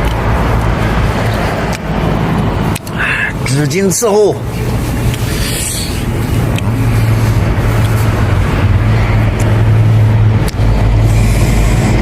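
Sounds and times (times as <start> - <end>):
road traffic rumble: 0.0 - 12.0
vehicle engine running: 0.0 - 12.0.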